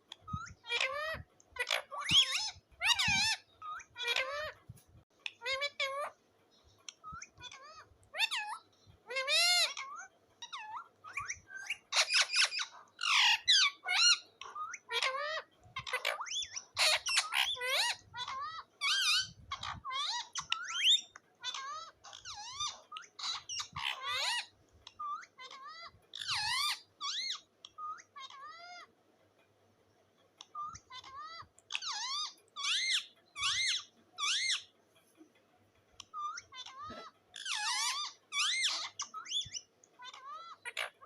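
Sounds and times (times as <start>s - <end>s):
parrot squawking and chattering: 0.0s - 29.0s, 30.3s - 41.0s.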